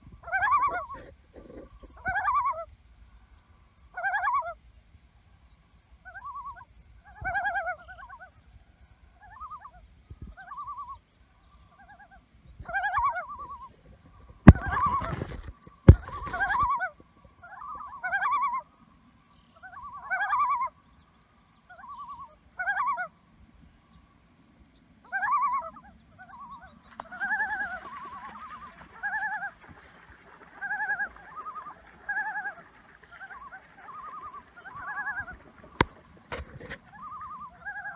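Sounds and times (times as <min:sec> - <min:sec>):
two-pitched loon calls: 0:00.2 - 0:02.8, 0:03.9 - 0:04.6, 0:06.0 - 0:08.4, 0:09.2 - 0:11.0, 0:11.6 - 0:18.8, 0:19.4 - 0:20.8, 0:21.6 - 0:23.2, 0:25.0 - 0:37.9
loon tremolo calls: 0:00.2 - 0:04.8, 0:05.4 - 0:24.2, 0:25.0 - 0:37.9.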